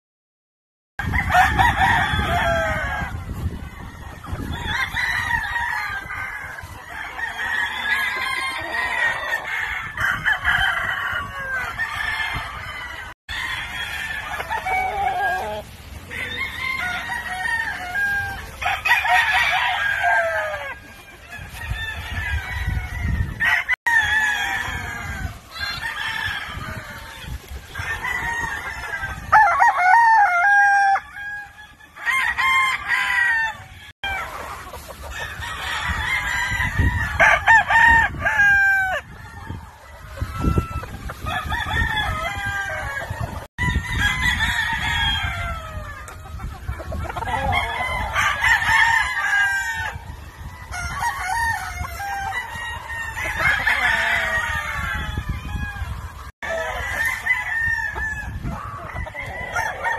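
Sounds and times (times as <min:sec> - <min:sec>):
roosters crowing: 0:01.0 - 0:59.9
chickens clucking: 0:01.6 - 0:21.7, 0:24.2 - 0:29.3, 0:33.6 - 0:37.4, 0:38.1 - 0:59.9.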